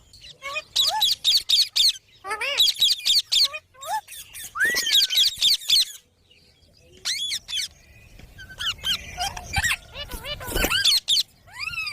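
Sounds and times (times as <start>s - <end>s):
parrot squeaky chirps and calls: 0.1s - 6.1s, 7.0s - 11.9s.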